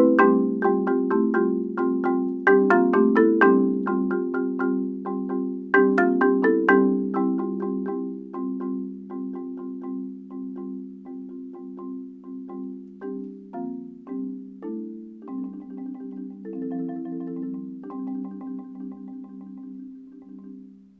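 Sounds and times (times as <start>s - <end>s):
marimba notes and chords: 0.0s - 20.9s.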